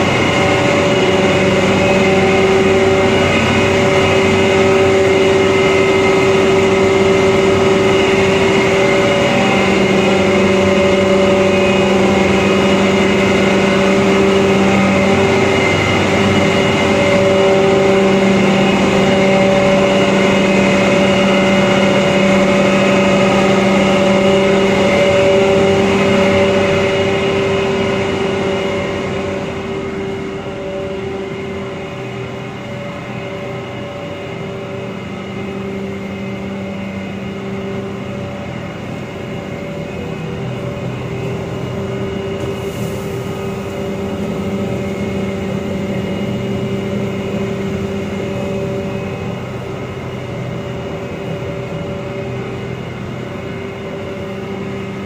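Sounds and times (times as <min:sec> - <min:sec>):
machine hum with held tones: 0:00.0 - 0:55.0.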